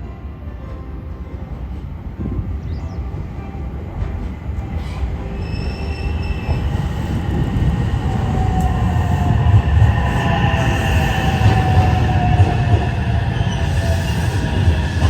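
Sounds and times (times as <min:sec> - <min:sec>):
train wheels rumbling on rails: 0:00.6 - 0:15.0.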